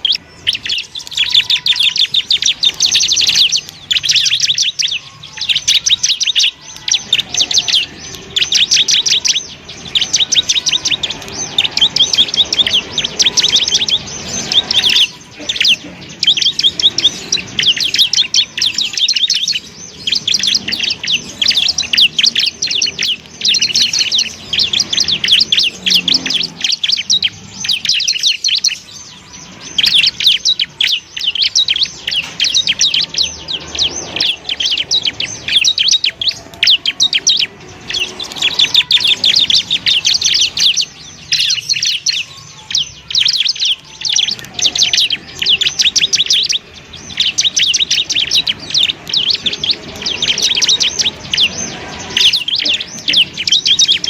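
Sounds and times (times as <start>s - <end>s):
bird singing high trills: 0.0s - 54.0s.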